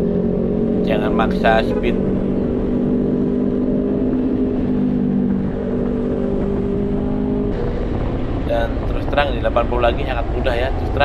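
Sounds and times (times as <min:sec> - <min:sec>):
road rumble: 0:00.0 - 0:11.0
scooter engine cruising: 0:00.0 - 0:11.0
wind on microphone: 0:00.0 - 0:11.0.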